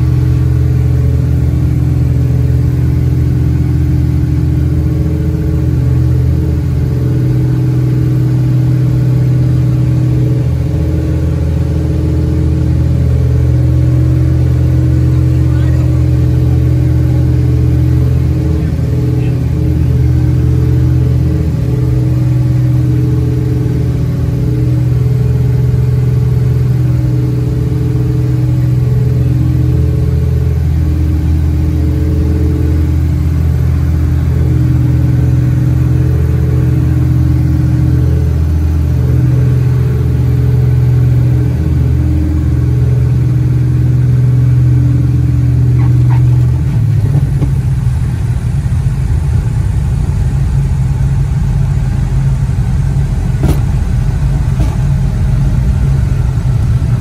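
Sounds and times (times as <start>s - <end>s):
piston aircraft engines droning: 0.0s - 57.0s.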